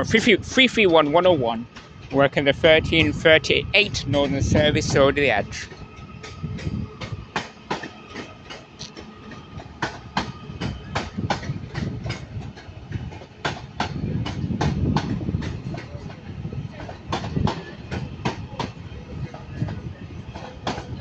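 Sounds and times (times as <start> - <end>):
train low rumble: 0.0 - 21.0
train wheels clicking over rail joints: 0.0 - 21.0.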